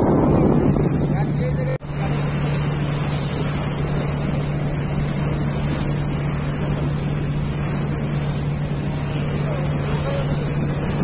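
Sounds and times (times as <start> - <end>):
boat engine drone: 0.0 - 11.0
wind and water rushing: 0.0 - 11.0.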